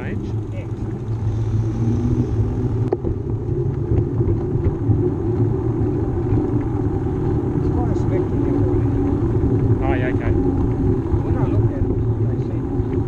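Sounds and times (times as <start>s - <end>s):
bicycle tyres rolling on concrete: 0.0s - 13.0s
wind rumble on microphone: 0.0s - 13.0s.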